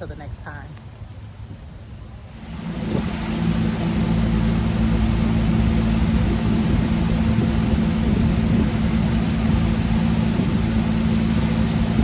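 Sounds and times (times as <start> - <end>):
low hum: 2.2 - 12.0
heavy rain falling: 2.3 - 12.0.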